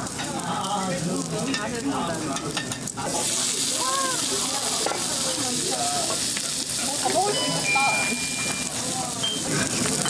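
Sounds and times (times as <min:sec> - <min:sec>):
meat and onions sizzling on grill: 0:00.0 - 0:10.0.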